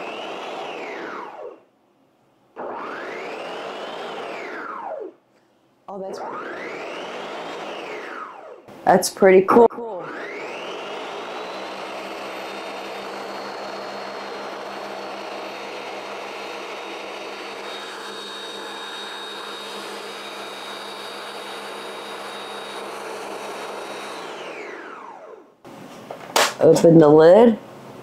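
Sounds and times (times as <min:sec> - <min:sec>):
blender motor whining: 0:00.0 - 0:01.7, 0:02.6 - 0:05.2, 0:05.9 - 0:08.9, 0:09.5 - 0:25.6.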